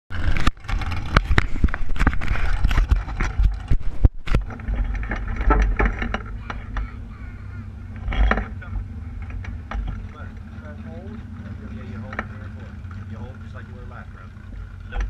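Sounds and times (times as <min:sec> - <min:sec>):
low steady rumble: 0:00.1 - 0:15.0.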